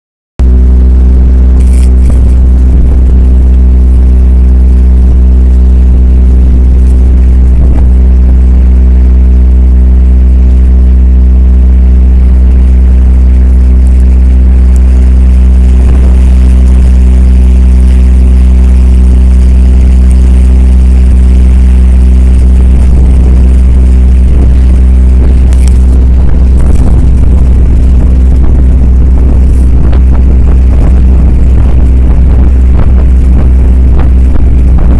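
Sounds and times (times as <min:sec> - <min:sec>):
boat engine droning: 0:00.4 - 0:34.9.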